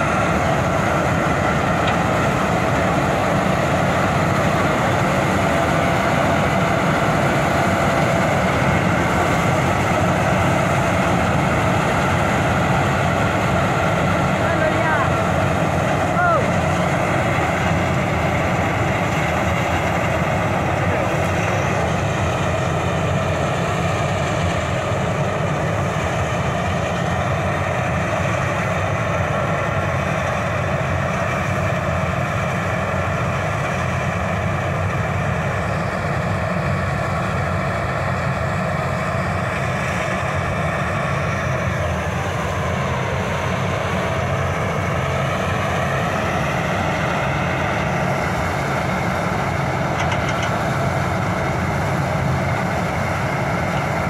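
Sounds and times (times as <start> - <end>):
combine harvester drone and whine: 0.0 - 54.0.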